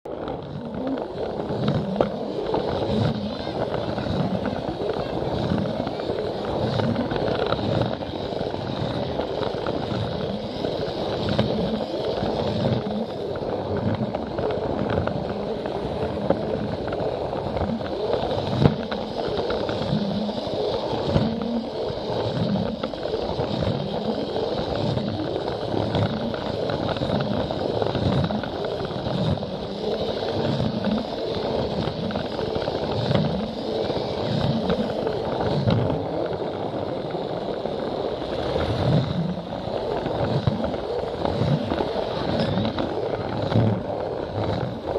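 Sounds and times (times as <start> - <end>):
toy train motor whirring: 0.1 - 44.9
wheels clattering over track joints: 0.1 - 44.9.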